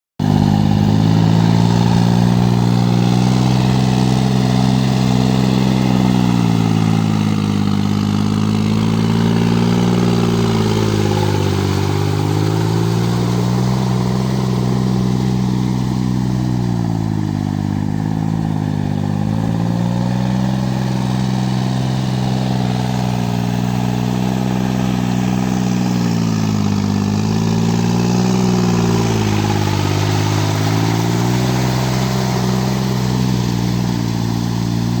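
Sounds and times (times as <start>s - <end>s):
tractor diesel engine running: 0.2s - 35.0s.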